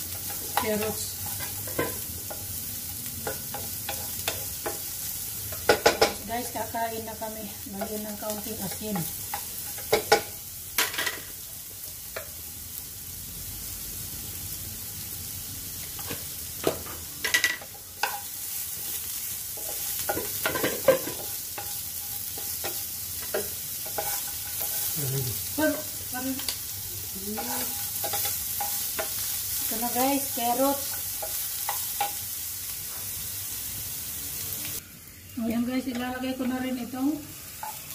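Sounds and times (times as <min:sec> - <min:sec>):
carrots sizzling in pan: 0:00.0 - 0:37.9.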